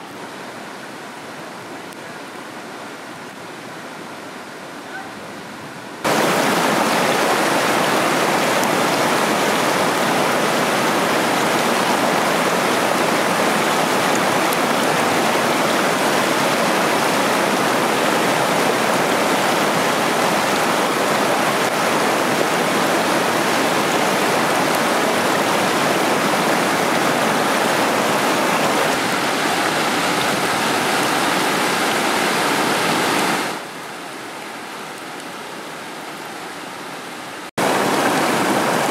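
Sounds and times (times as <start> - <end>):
water rushing over rocks: 6.0 - 38.9.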